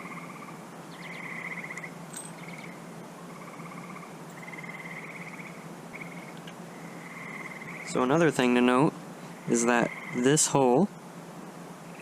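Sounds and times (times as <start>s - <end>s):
animals calling in buzzy trills: 0.0s - 8.2s, 8.8s - 10.8s
steady low hum: 0.0s - 12.0s.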